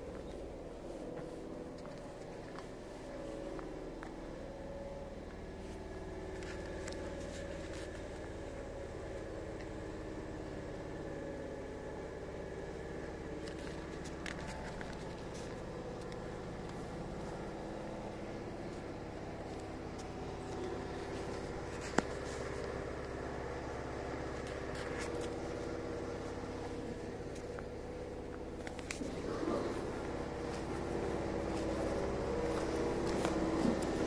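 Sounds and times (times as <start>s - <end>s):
bus engine idling: 0.0s - 34.0s.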